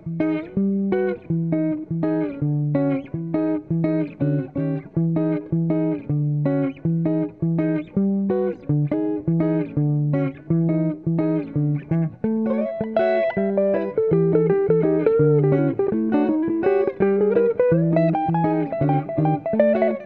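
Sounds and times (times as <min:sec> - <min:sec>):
plucked guitar music: 0:00.0 - 0:20.0.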